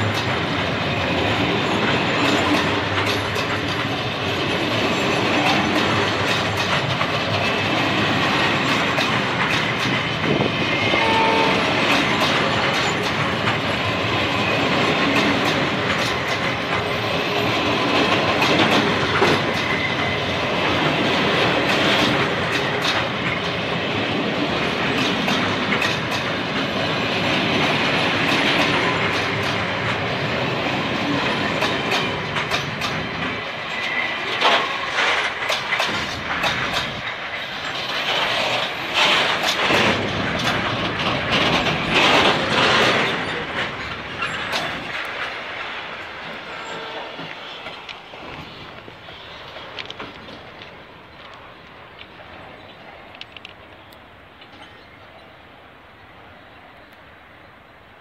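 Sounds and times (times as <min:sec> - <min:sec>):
wheels clattering over rail joints: 0:00.0 - 0:54.9
train wheels rumbling on rail: 0:00.0 - 0:58.0.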